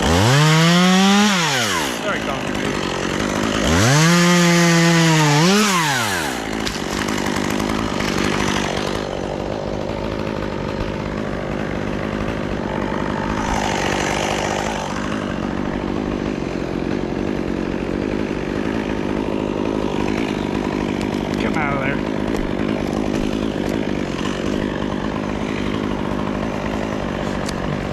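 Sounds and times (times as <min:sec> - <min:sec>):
chainsaw revving and idling: 0:00.0 - 0:27.9.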